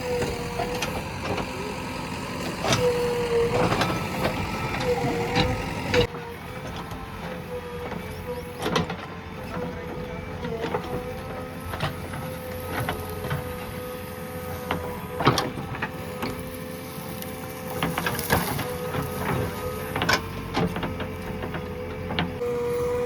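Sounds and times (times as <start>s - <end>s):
diesel engine and hydraulic whine: 0.0s - 23.0s.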